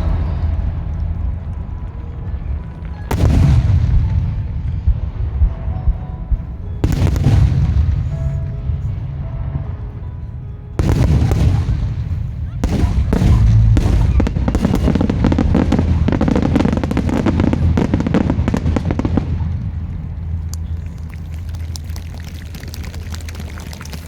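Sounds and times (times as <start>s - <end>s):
fireworks bursting and crackling: 0.0s - 10.0s, 10.8s - 24.0s
deep rumble: 0.0s - 24.0s.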